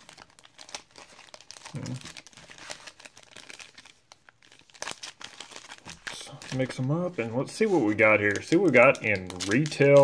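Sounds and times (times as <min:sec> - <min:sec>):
plastic wrappers crinkling: 0:00.0 - 0:10.0.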